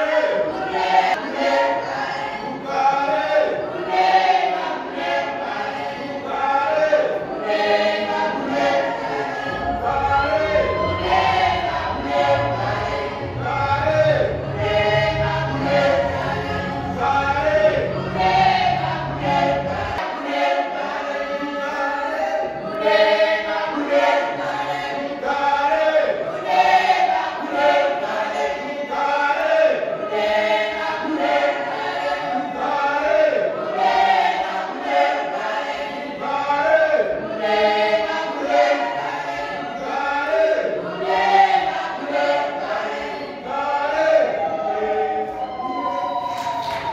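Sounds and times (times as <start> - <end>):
choir singing unaccompanied: 0.0 - 46.9.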